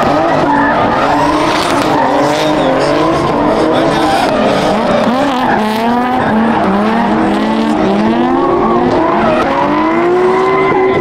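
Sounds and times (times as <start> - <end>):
car engines revving: 0.0 - 11.0
tires squealing: 0.0 - 11.0.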